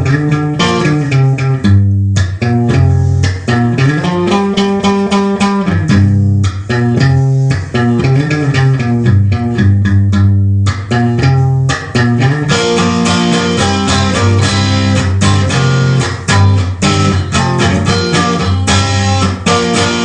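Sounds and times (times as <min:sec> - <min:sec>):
rock guitar riff with bass: 0:00.0 - 0:20.0.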